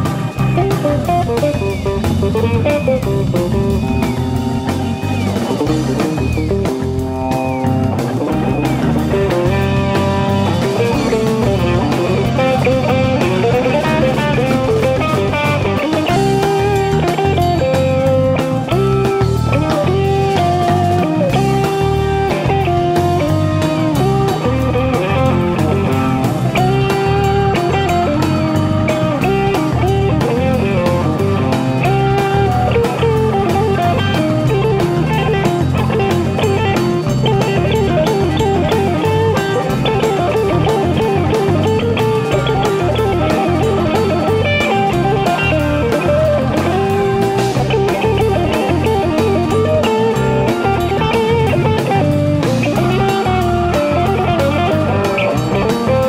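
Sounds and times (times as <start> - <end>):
lead electric guitar runs: 0.0 - 56.0
live rock band playing: 0.0 - 56.0.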